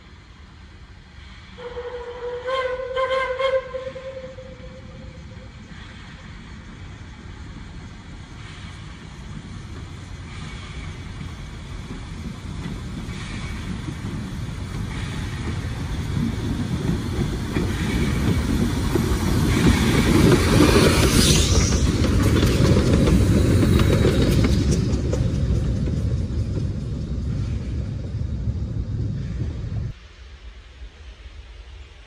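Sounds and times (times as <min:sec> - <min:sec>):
steam hiss: 0:00.0 - 0:32.0
steam locomotive rumble: 0:00.0 - 0:32.0.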